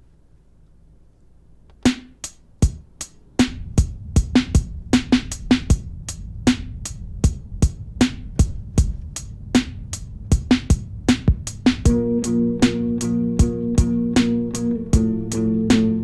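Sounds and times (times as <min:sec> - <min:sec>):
sharp drum beat: 0:01.9 - 0:16.0
deep bass: 0:02.6 - 0:16.0.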